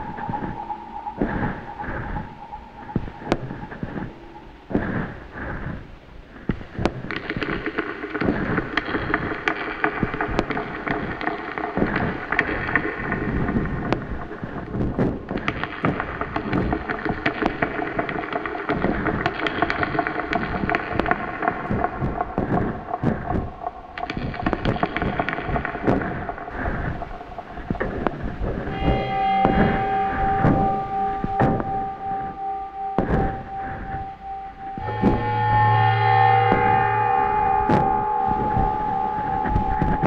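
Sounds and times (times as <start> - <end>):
crackling noise music: 0.0 - 40.0.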